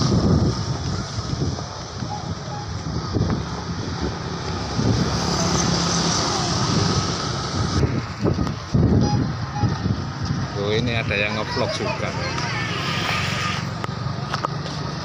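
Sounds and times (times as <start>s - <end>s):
scooter passing close: 0.0s - 8.6s, 11.4s - 15.0s
low traffic rumble: 0.0s - 15.0s
motorbikes passing: 0.0s - 15.0s.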